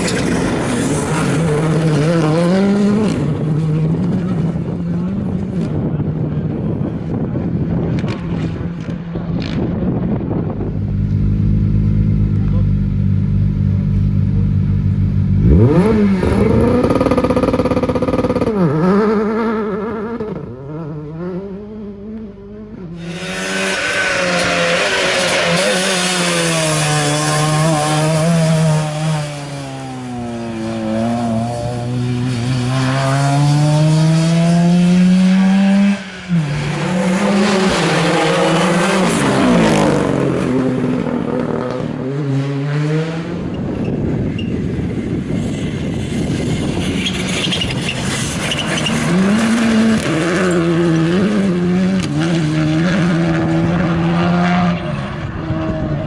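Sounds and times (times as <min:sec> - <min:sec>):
rally car engine revving: 0:00.0 - 0:07.1, 0:07.9 - 0:44.3, 0:45.7 - 0:56.0.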